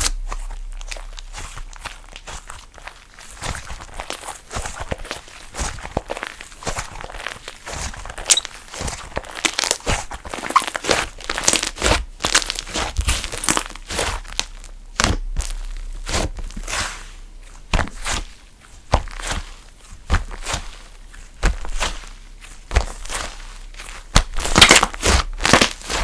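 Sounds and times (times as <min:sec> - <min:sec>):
slime squeezed and kneaded: 0:00.0 - 0:26.0.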